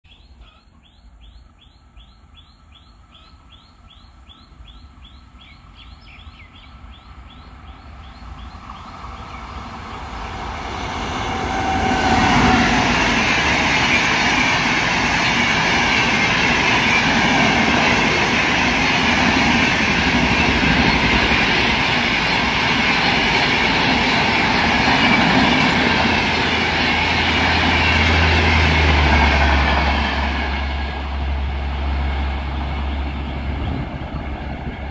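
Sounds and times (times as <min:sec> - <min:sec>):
passenger train passing: 0:00.8 - 0:34.9.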